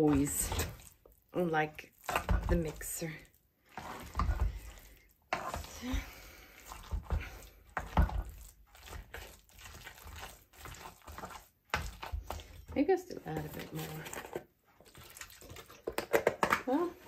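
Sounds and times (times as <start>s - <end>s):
potato masher squelching: 0.0s - 16.0s.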